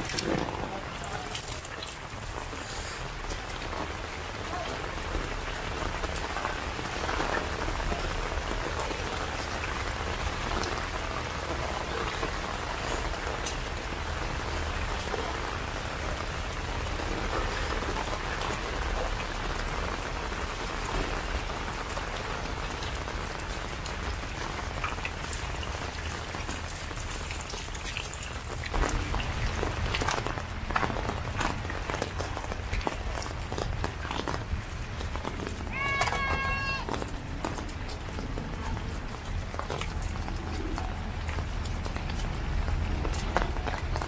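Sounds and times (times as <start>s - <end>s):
rain spattering into puddles: 0.0s - 44.0s.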